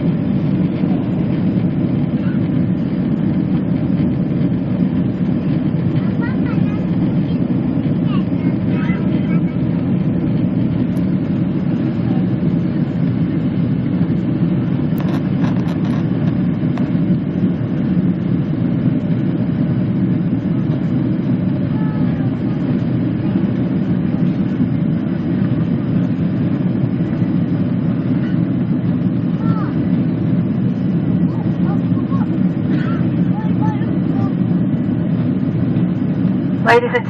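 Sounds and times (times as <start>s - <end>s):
jet airliner engine rumble: 0.0s - 37.0s.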